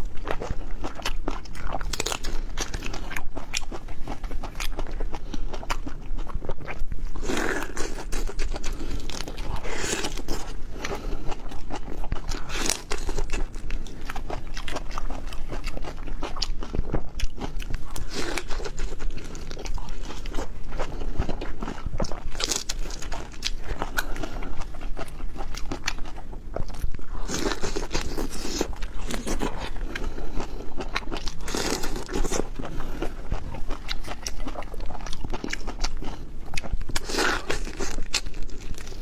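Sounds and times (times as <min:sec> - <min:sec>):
crunching and chewing: 0:00.0 - 0:39.0.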